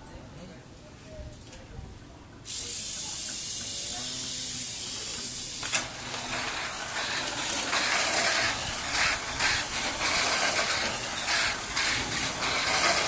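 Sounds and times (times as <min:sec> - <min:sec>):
steady hissing: 0:02.5 - 0:13.0.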